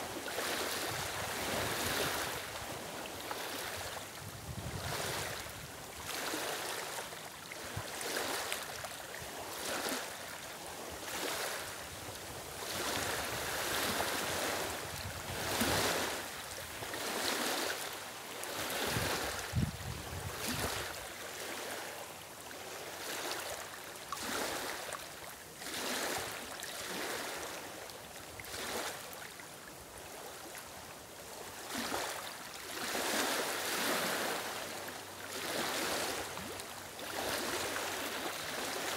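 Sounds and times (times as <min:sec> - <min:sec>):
waves lapping on stony shore: 0:00.0 - 0:38.9.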